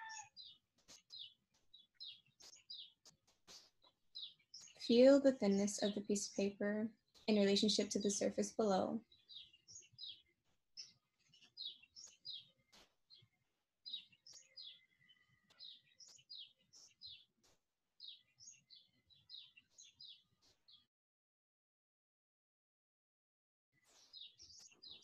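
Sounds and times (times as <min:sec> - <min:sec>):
small birds chirping: 0:00.0 - 0:20.9, 0:23.8 - 0:25.0.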